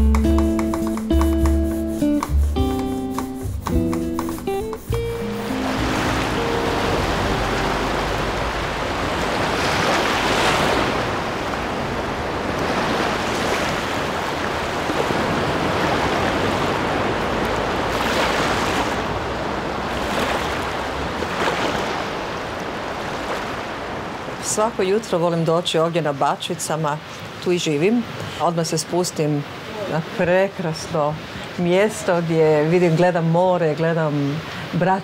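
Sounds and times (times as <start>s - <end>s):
sea waves washing on shore: 0.0s - 35.0s.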